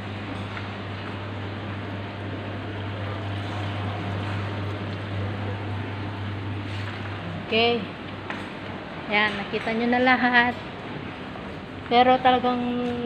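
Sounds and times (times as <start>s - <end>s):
aquarium pumps humming: 0.0s - 13.0s.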